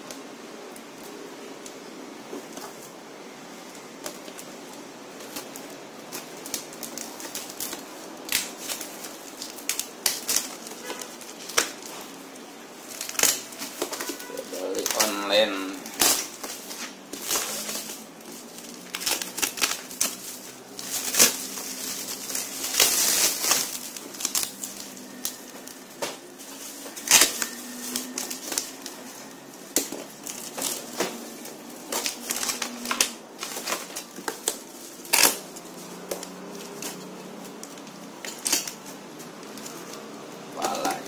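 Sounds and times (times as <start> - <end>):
plastic crinkling: 0.1 - 41.0.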